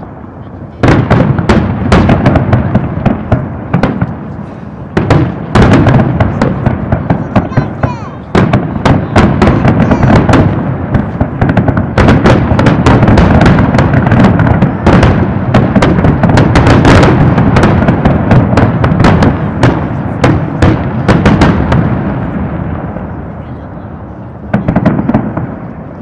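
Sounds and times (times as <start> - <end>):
fireworks bangs: 0.0 - 26.0
fireworks rumble: 0.0 - 26.0.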